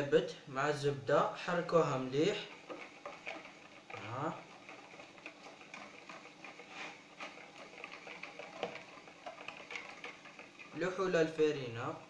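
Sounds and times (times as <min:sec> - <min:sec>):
whisk scraping plastic bowl: 0:01.4 - 0:12.0.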